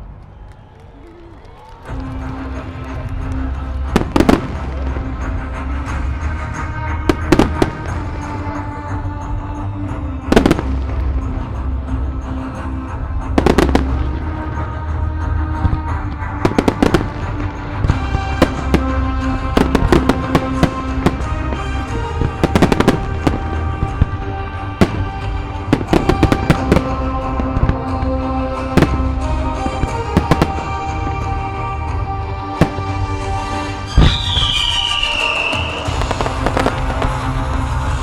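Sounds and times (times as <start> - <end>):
music playing: 0.0 - 38.0
fireworks bursting: 1.7 - 8.8, 13.2 - 38.0.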